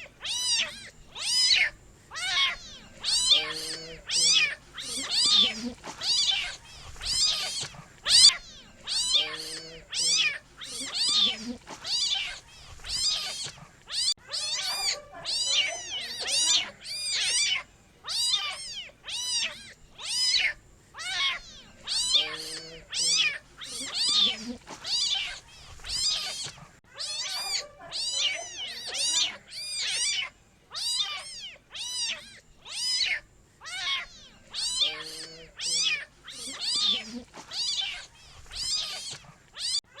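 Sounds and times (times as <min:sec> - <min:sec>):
kitten meowing: 0:00.0 - 0:40.0.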